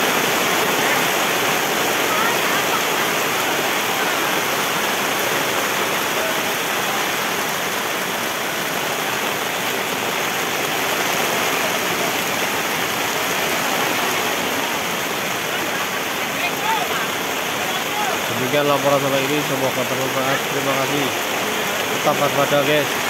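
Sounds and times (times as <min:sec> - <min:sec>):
heavy rain downpour: 0:00.0 - 0:23.0.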